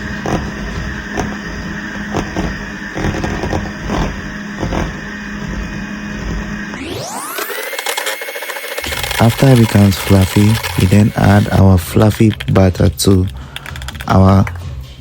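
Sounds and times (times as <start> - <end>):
electric mixer running: 0.0 - 14.1.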